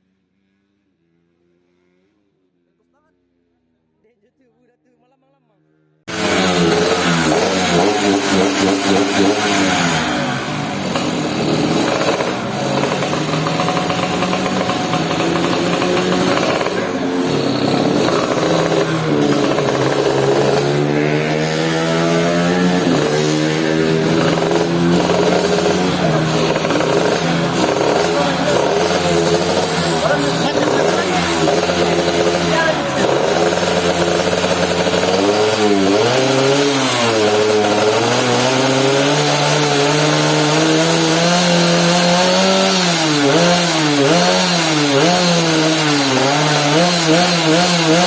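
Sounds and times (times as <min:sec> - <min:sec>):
motorcycle engines revving: 0:00.1 - 0:03.8, 0:05.6 - 0:48.0.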